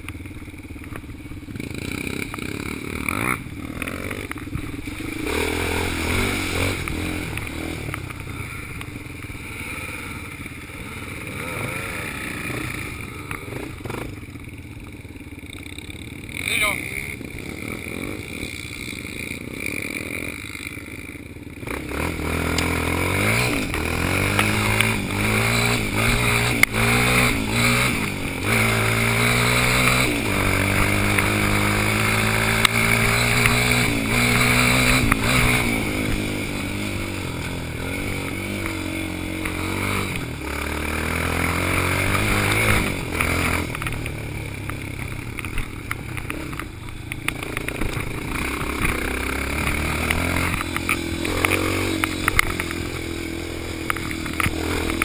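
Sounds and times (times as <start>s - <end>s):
quad engine accelerating: 0.0s - 55.0s.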